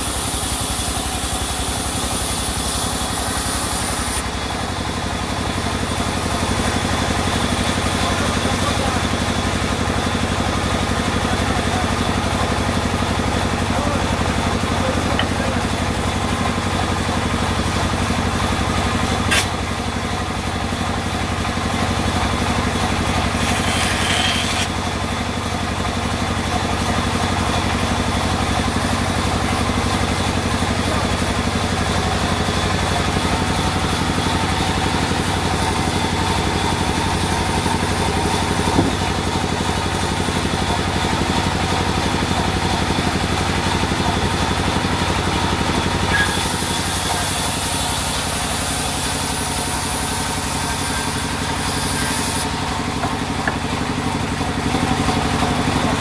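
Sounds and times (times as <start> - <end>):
band saw running: 0.0 - 56.0.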